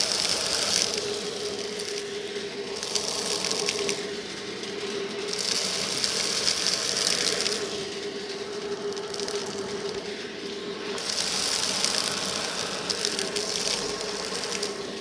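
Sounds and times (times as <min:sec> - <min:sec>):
debris rattling up vacuum nozzle: 0:00.0 - 0:15.0
handheld vacuum cleaner motor hum: 0:00.0 - 0:15.0.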